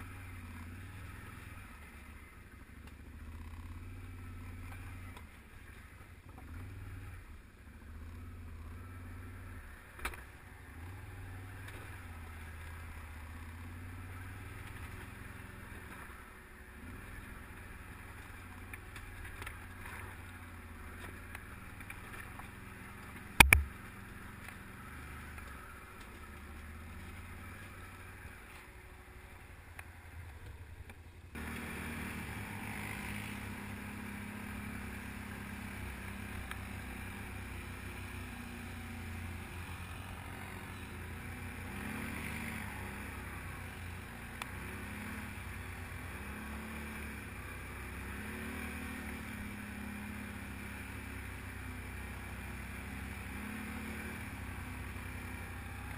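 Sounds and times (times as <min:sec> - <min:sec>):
atv engine rumble: 0:00.0 - 0:55.9
engine drone: 0:00.0 - 0:55.9.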